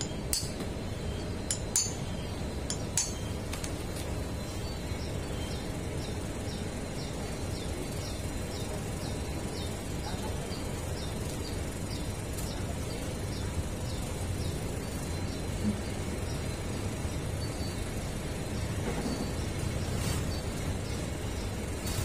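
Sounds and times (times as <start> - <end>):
bird chirping: 0.0 - 3.5, 4.2 - 21.7.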